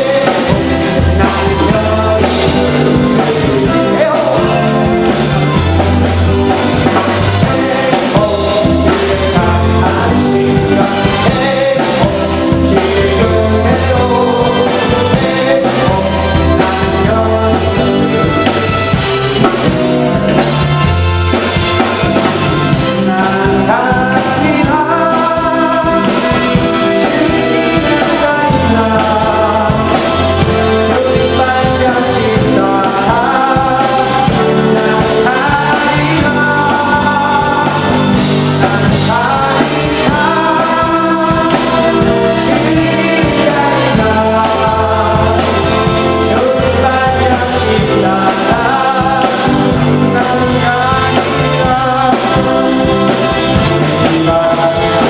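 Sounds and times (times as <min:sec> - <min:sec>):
person singing: 0:00.0 - 0:55.0
rock band playing: 0:00.0 - 0:55.0.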